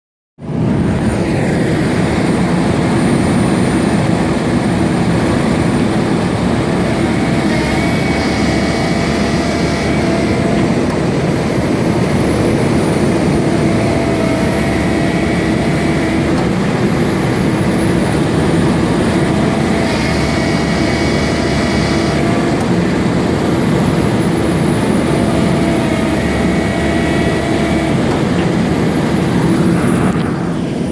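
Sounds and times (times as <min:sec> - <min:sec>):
truck engine running: 0:00.4 - 0:30.9.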